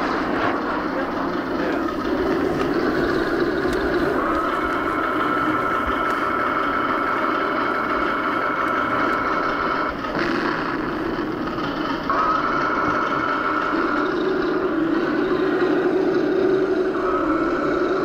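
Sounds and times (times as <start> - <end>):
model jet engine whine: 0.0 - 18.0
rushing noise: 0.0 - 18.0.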